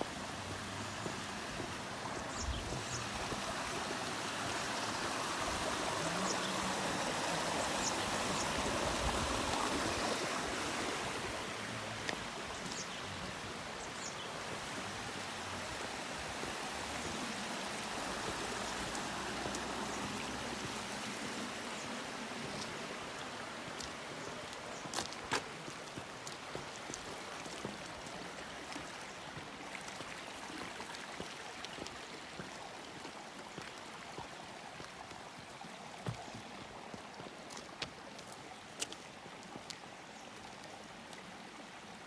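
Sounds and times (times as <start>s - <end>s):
mountain stream rushing over rocks: 0.0s - 42.0s.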